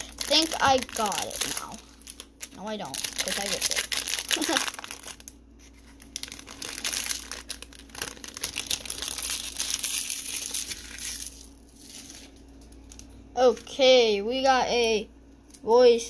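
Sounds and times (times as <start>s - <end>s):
foil wrapper crinkling: 0.0s - 13.1s.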